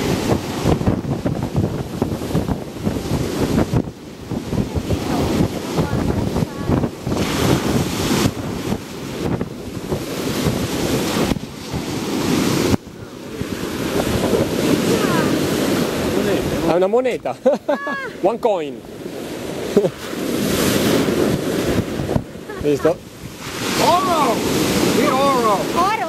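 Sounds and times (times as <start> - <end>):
ocean surf breaking: 0.0 - 26.0
wind on microphone: 0.0 - 26.0.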